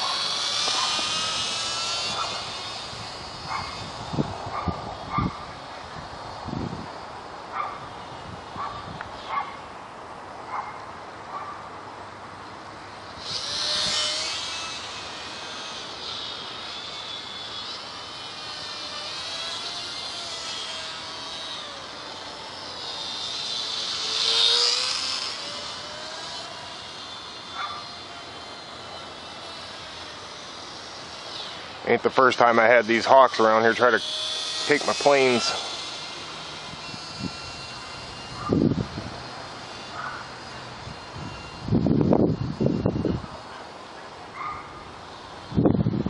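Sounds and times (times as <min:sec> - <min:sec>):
model plane motor whine: 0:00.0 - 0:09.8, 0:10.5 - 0:46.0.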